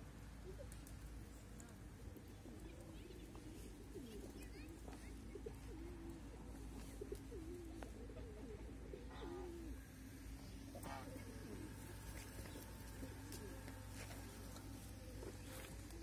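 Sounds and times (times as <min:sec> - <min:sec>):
bird cooing: 0:00.3 - 0:16.0.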